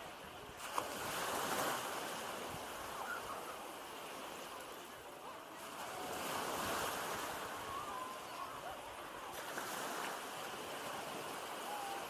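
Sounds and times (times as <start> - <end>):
small waves washing over sand: 0.0 - 12.0.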